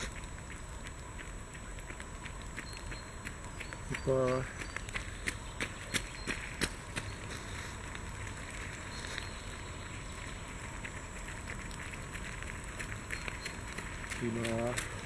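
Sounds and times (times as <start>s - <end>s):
footfalls on dirt track: 0.0s - 15.0s
steady outdoor hiss: 0.0s - 15.0s.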